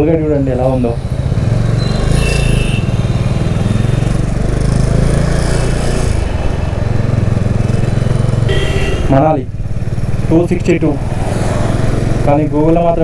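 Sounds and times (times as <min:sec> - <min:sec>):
motorcycle engine running: 0:00.4 - 0:13.0.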